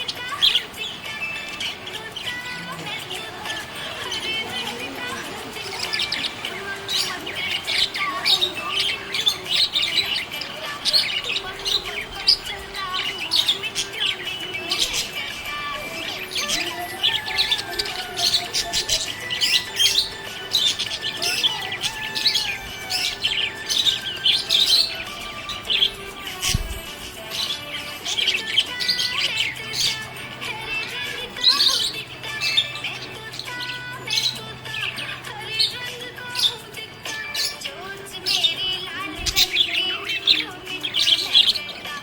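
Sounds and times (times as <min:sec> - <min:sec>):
budgerigars chirping: 0:00.0 - 0:42.0.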